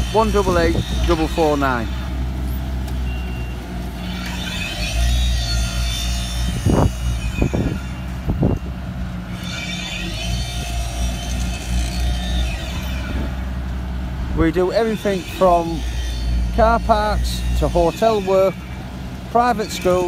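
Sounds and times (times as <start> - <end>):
rakes scraping asphalt: 0.0 - 8.6, 9.2 - 20.0
diesel engine running: 0.0 - 20.0.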